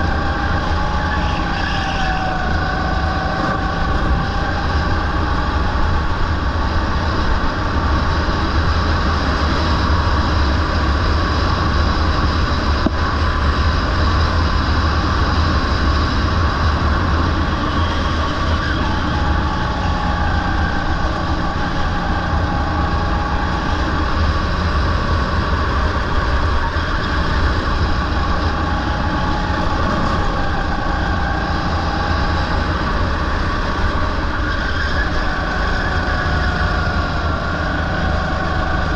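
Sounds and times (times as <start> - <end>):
small petrol engine racing: 0.0 - 38.9
wind buffeting microphone: 2.2 - 34.5.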